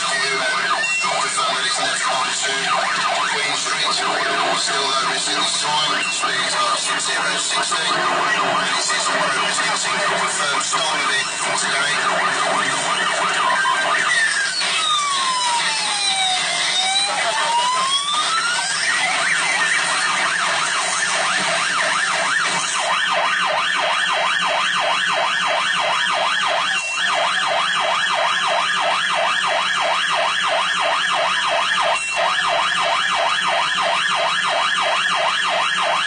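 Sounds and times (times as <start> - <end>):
police siren yelping: 0.0 - 36.0.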